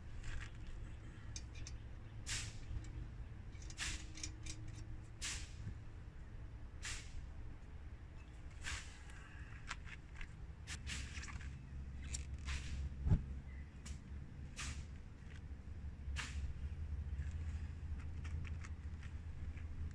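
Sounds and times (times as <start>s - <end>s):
low steady rumble: 0.0s - 19.9s.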